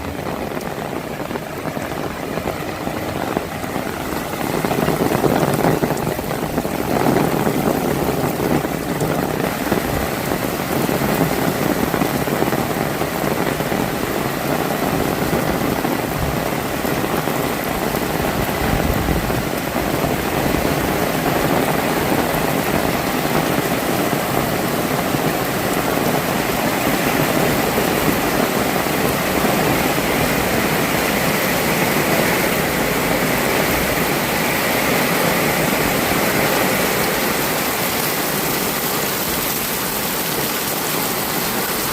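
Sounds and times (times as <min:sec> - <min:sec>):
heavy rain hiss: 0:00.0 - 0:41.9.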